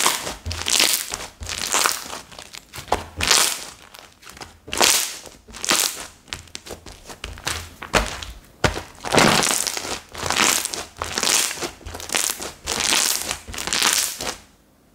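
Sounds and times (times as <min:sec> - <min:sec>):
slime squeezed by hand crackling: 0:00.0 - 0:14.5.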